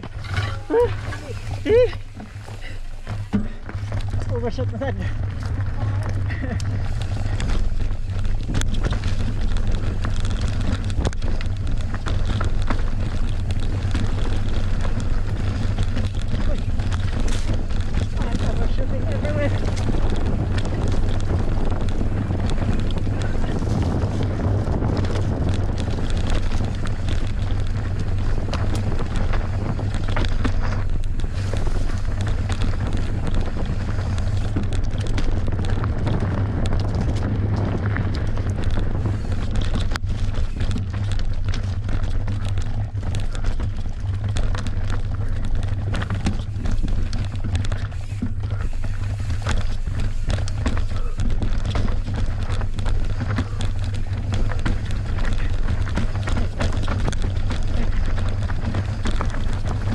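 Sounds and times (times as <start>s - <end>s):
bike knocking and rattling: 0.0s - 59.9s
bike tyres on dirt: 0.0s - 59.9s
wind buffeting microphone: 0.0s - 59.9s.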